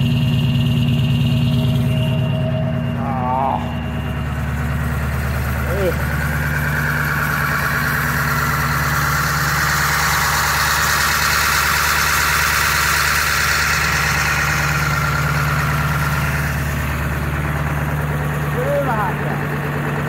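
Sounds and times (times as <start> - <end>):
diesel engine idling with clatter: 0.0 - 20.0.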